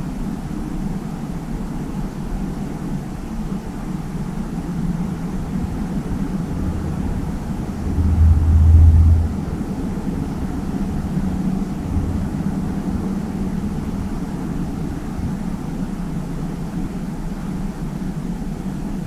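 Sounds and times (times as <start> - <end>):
steady low rumble: 3.3 - 19.0.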